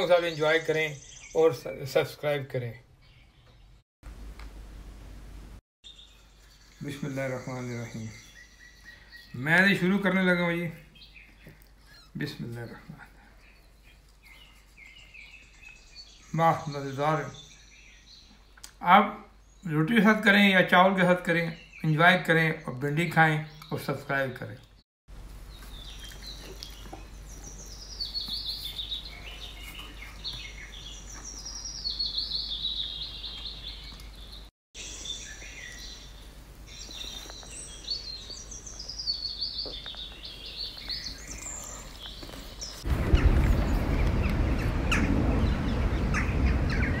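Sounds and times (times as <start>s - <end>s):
songbirds chirping: 0.0s - 3.8s, 5.8s - 47.0s.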